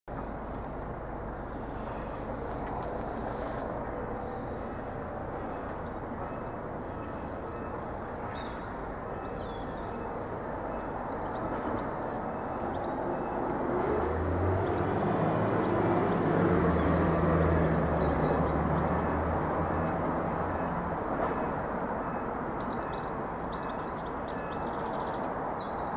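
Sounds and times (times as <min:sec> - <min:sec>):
street traffic noise: 0:00.1 - 0:25.9.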